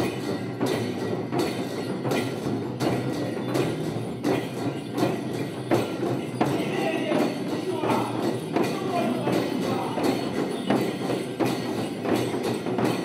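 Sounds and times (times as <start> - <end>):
bells jingling: 0.0 - 13.0
frame drums beating: 0.0 - 13.0.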